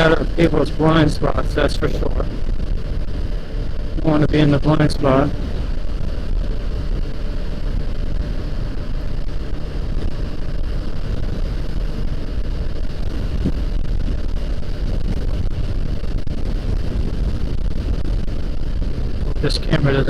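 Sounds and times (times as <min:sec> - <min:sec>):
motorcycle engine running: 0:00.0 - 0:20.0
wind rushing over microphone: 0:00.0 - 0:20.0.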